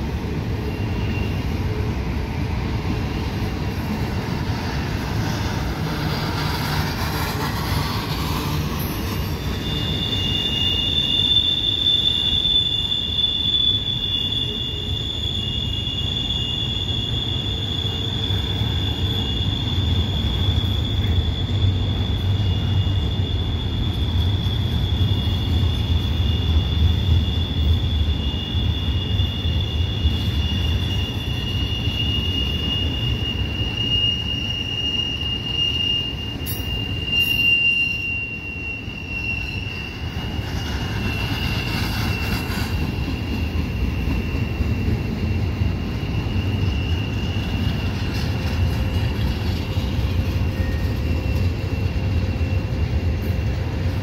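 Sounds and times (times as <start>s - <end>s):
freight train rumbling past: 0.0s - 54.0s
high-pitched wheel squeal: 0.4s - 1.9s, 2.6s - 54.0s.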